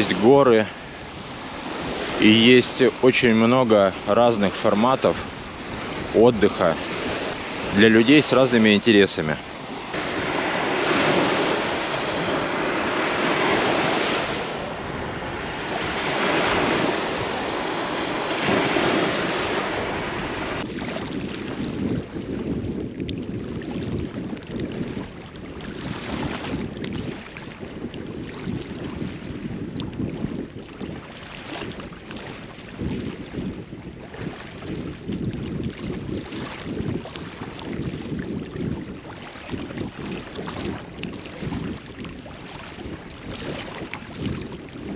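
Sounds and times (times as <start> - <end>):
surf washing onto shore: 0.0 - 44.9
wind buffeting microphone: 0.0 - 44.9.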